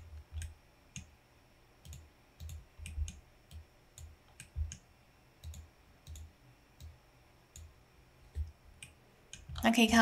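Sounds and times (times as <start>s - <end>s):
computer mouse clicking: 0.0s - 1.2s, 1.8s - 9.6s.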